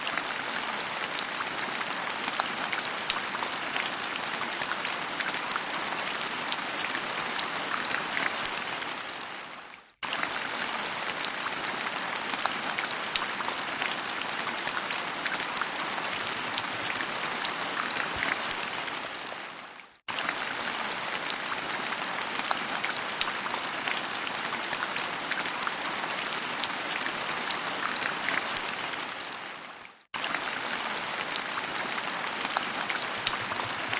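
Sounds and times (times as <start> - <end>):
steady rain patter: 0.0 - 33.9.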